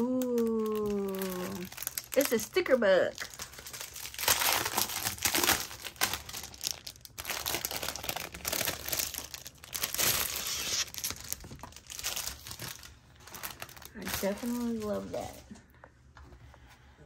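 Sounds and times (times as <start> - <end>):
plastic packaging crinkling: 0.1 - 15.5.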